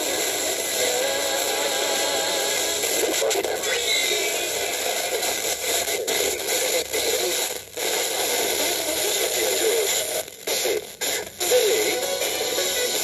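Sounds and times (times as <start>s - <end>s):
faint radio programme: 0.0s - 13.0s
radio hiss and static: 0.0s - 13.0s.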